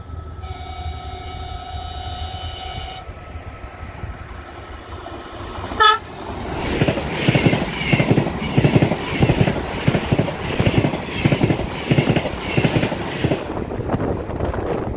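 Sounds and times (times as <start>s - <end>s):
train rushing past: 0.0s - 14.9s.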